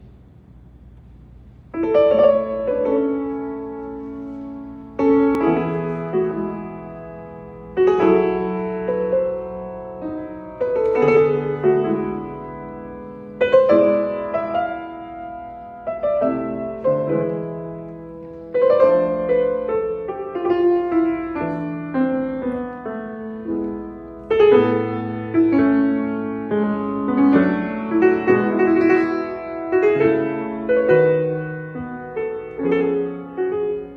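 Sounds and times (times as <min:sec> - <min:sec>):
slow solo piano: 0:01.6 - 0:33.9.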